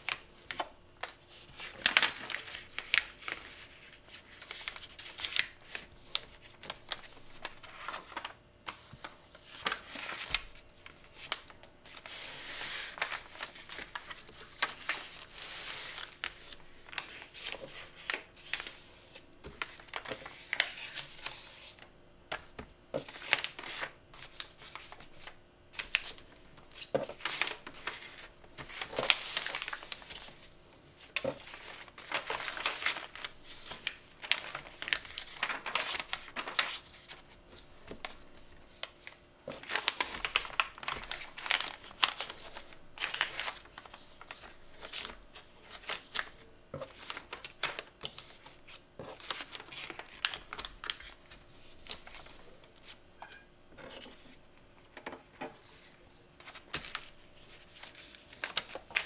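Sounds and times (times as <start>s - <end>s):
wrapping paper crinkling: 0.0s - 53.0s, 55.6s - 59.0s.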